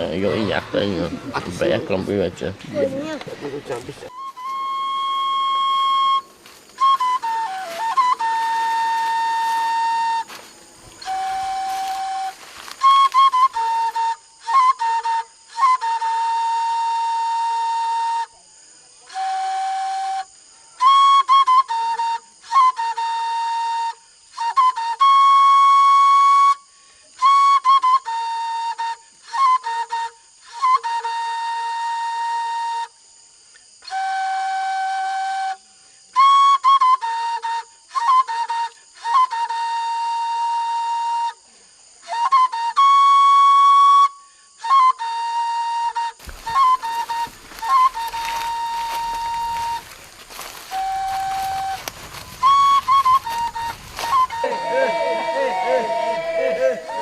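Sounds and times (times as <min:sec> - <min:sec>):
flute playing slow melody: 0:04.1 - 0:33.2, 0:33.8 - 0:57.0.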